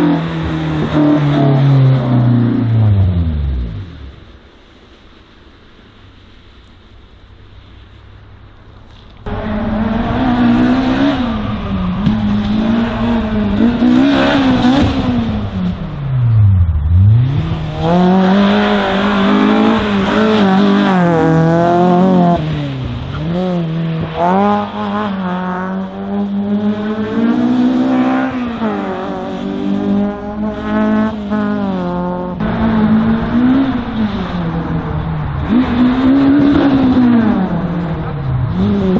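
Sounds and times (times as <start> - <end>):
race car engine at full throttle: 0.0 - 38.9.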